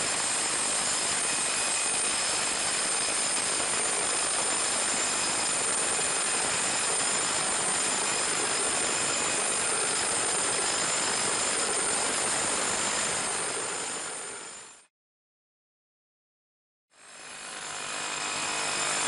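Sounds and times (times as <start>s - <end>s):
steady machine noise: 0.0s - 14.8s, 17.0s - 19.0s.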